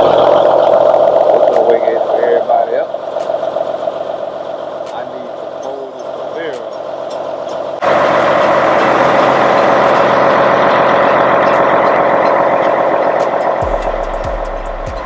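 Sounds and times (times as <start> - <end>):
bass beat of music: 0.0 - 4.0, 4.8 - 15.0
truck diesel engine running: 0.0 - 15.0.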